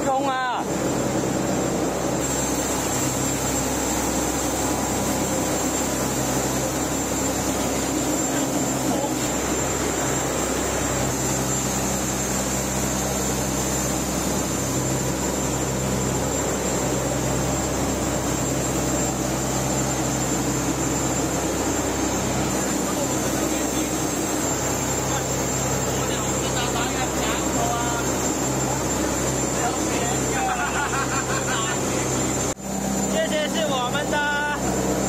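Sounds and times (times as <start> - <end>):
boat engine droning: 0.0 - 35.0
thin high whine: 0.0 - 35.0.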